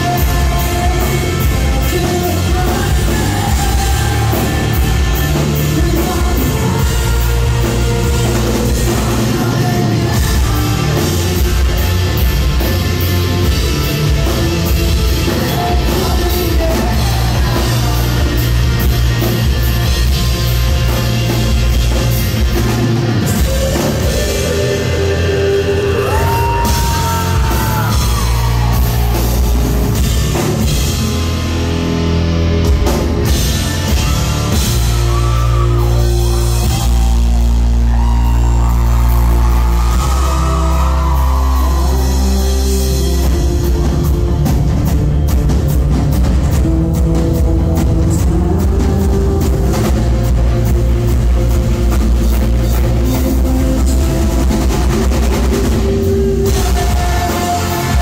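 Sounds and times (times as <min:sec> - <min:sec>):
singer singing and yelling: 0:00.0 - 0:32.2, 0:33.0 - 0:45.3, 0:46.5 - 0:58.0
bass guitar: 0:00.0 - 0:58.0
distorted electric guitars: 0:00.0 - 0:58.0
drum kit: 0:00.0 - 0:58.0.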